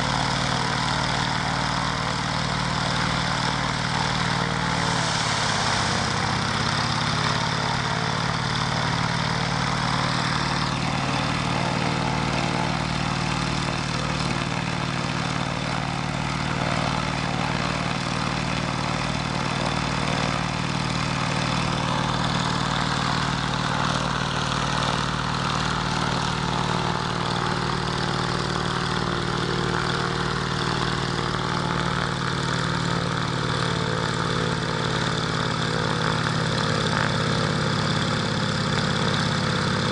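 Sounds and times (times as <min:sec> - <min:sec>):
piston aircraft engine running: 0:00.0 - 0:39.9.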